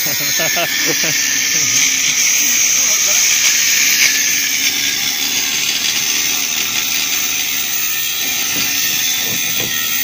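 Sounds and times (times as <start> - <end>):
angle grinder cutting steel: 0.0 - 10.0.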